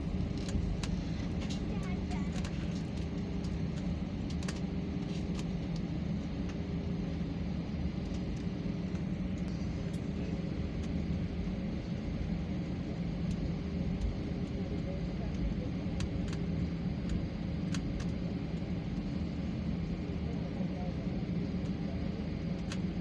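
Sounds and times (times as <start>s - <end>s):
airliner engines rumbling: 0.0s - 23.0s
faint steady hum: 0.0s - 23.0s.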